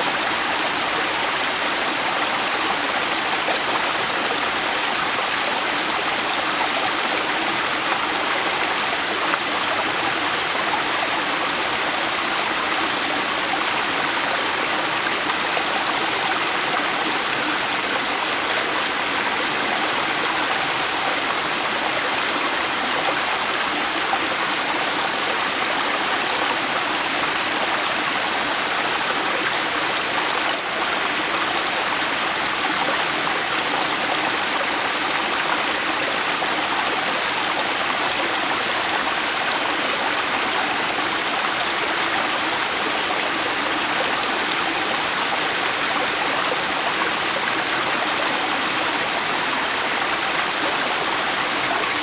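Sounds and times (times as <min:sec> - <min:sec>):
river flowing: 0:00.0 - 0:52.0.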